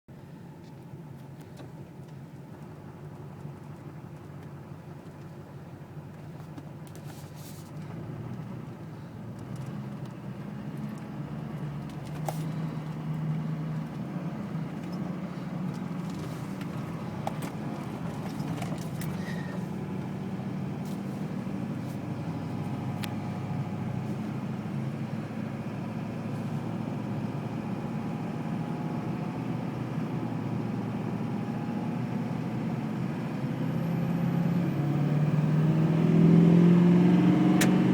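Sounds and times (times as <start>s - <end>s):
diesel engine idling: 0.1s - 35.0s.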